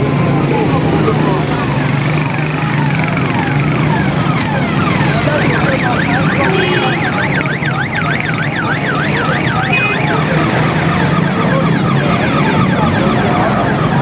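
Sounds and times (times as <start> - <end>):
electronic siren yelping: 1.7 - 14.0.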